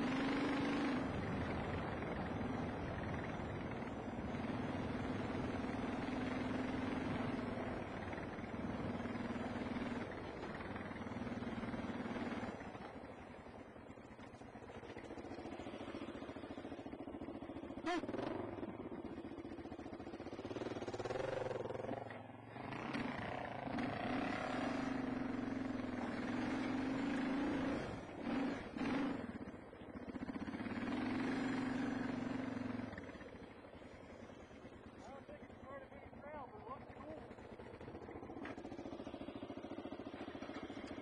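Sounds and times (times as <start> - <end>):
motorcycle engine: 0.0 - 41.0.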